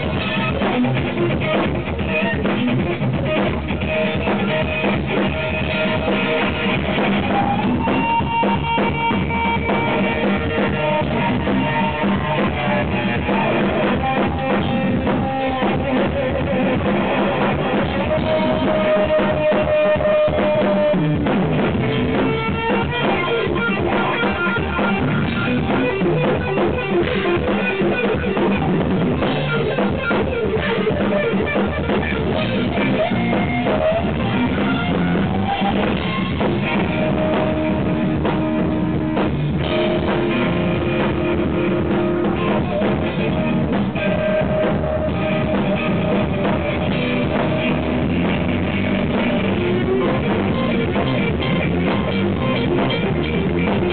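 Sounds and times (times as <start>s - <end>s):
drum kit playing: 0.0s - 53.9s
lead electric guitar: 0.0s - 53.9s.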